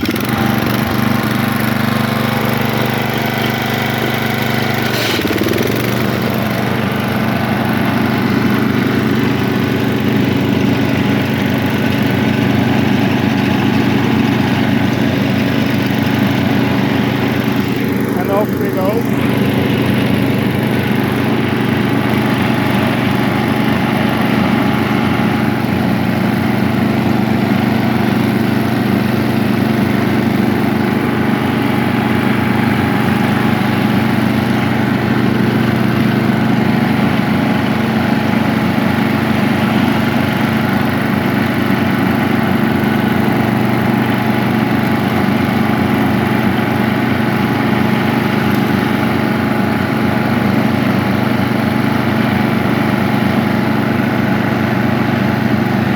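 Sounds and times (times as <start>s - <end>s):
riding lawnmower engine running: 0.0s - 55.9s.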